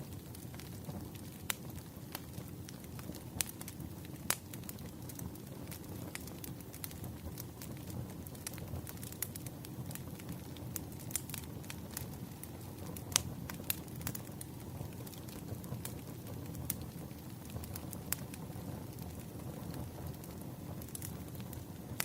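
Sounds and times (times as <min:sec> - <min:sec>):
fire popping and snapping: 0:00.0 - 0:22.0
fire rumbling: 0:00.0 - 0:22.0.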